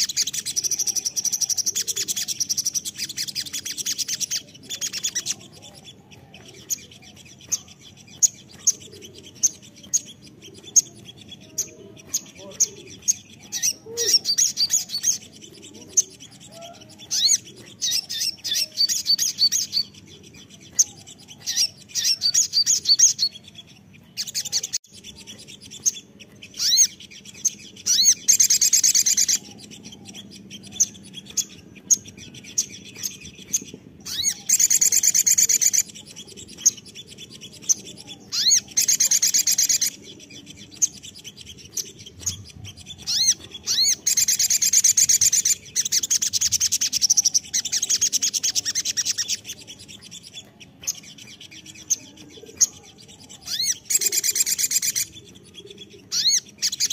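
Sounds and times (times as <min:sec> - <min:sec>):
bird chips and trills: 0:00.0 - 0:56.9.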